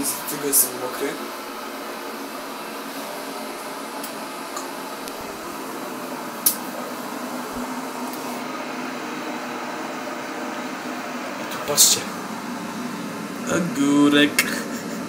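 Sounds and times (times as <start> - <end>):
kettle hissing and rumbling: 0.0 - 15.0.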